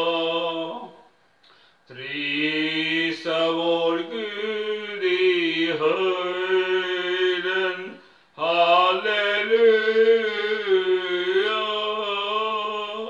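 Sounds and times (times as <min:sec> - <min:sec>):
man singing a hymn: 0:00.0 - 0:01.1, 0:01.9 - 0:13.0.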